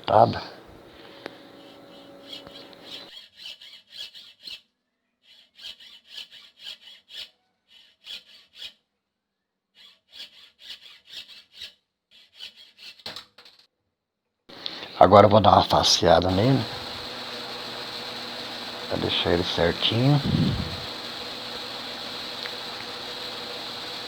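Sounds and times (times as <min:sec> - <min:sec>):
hand saw cutting wood: 0:01.6 - 0:08.9, 0:09.7 - 0:13.1, 0:14.5 - 0:24.0.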